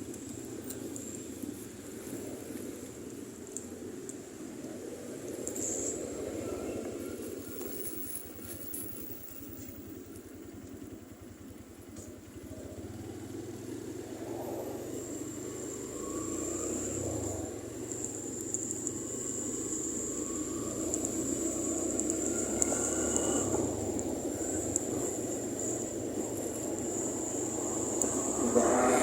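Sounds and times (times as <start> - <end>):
road noise: 0.0 - 29.0
motorcycle engine running: 5.6 - 29.0.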